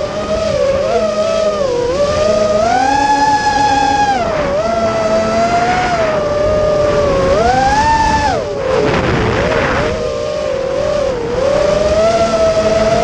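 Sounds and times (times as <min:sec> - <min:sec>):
small high-revving engine: 0:00.0 - 0:13.0.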